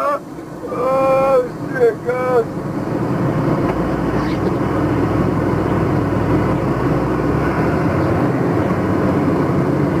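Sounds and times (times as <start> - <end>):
truck engine drone: 0.0 - 10.0.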